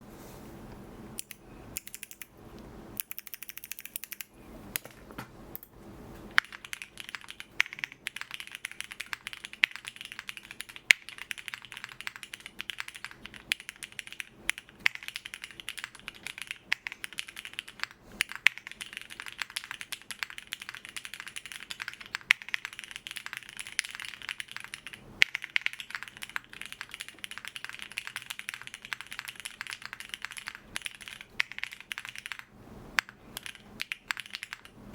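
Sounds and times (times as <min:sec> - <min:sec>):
mechanical keyboard typing: 0:01.2 - 0:02.3, 0:03.0 - 0:05.0, 0:06.3 - 0:34.8
scattered clicks: 0:01.2 - 0:05.7, 0:06.3 - 0:34.8.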